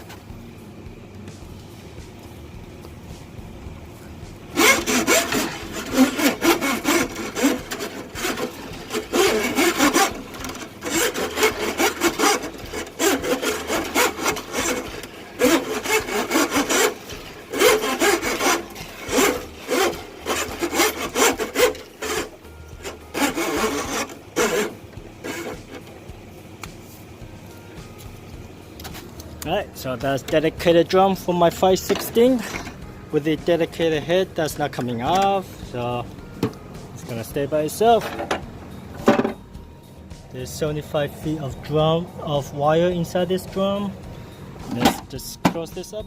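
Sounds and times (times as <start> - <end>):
steel cable scraping drum: 2.5 - 28.2, 28.8 - 46.0.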